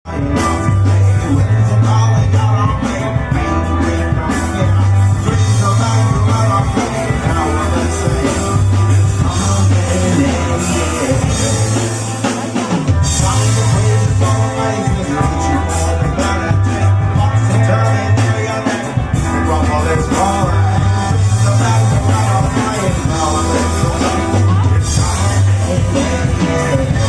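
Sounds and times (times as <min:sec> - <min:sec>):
electric guitar: 0:00.0 - 0:27.0
long held bass notes: 0:00.0 - 0:27.0
person singing: 0:00.0 - 0:27.0
drum kit with cymbals: 0:00.1 - 0:27.0.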